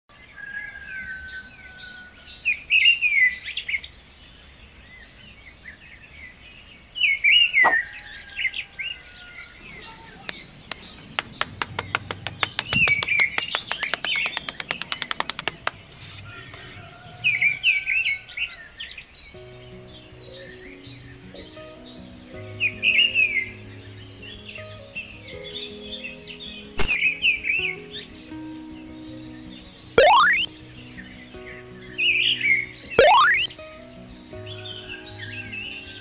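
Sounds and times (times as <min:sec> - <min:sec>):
songbirds chirping and singing: 0:00.1 - 0:36.0.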